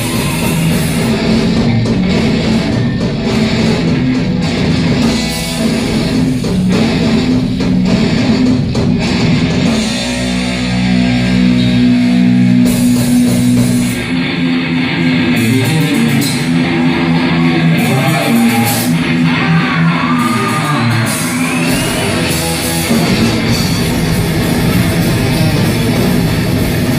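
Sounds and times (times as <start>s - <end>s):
heavy metal band playing live: 0.0s - 26.9s.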